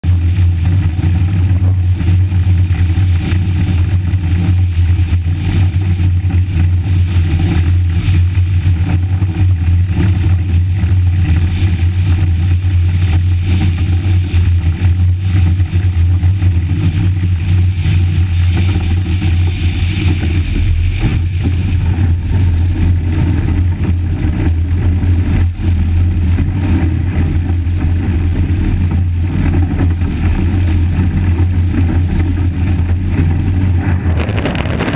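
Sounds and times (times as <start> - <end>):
ice yacht runners rumbling: 0.0 - 34.9.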